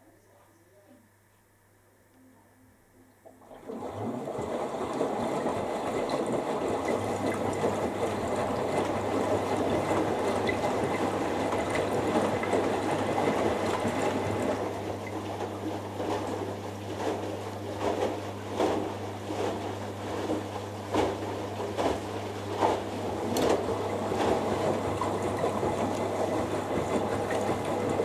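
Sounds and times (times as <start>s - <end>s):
water sloshing in washing machine: 3.2s - 28.0s.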